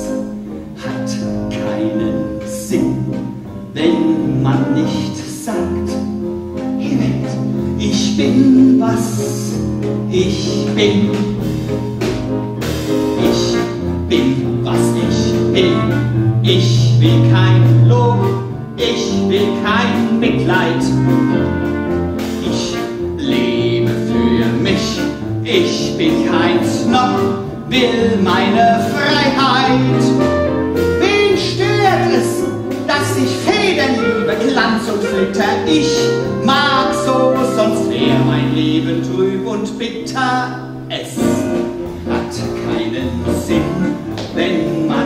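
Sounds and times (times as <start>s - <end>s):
man singing: 0.0s - 12.2s, 13.1s - 21.5s, 22.2s - 45.0s
live band playing: 0.0s - 39.4s, 40.1s - 45.0s.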